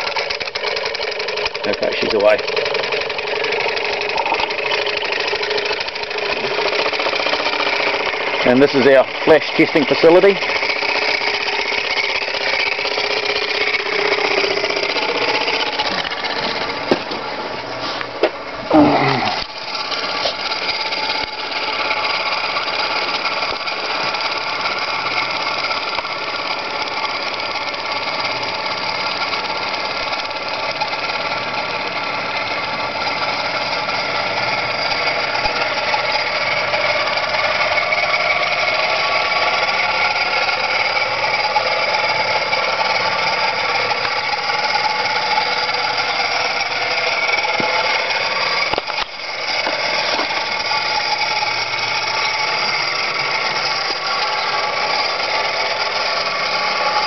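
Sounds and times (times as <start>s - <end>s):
model steam engine humming: 0.0s - 57.0s.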